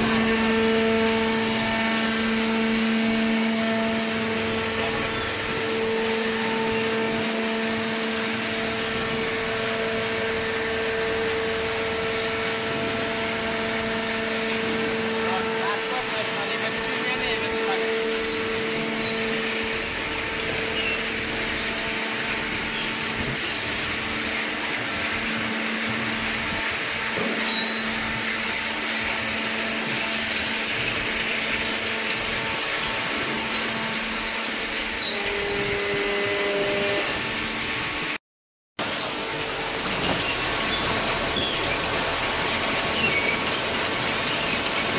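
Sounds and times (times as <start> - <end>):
baler machine hum and whine: 0.0 - 38.2, 38.8 - 44.9
hydraulic power unit running: 0.0 - 38.2, 38.8 - 44.9.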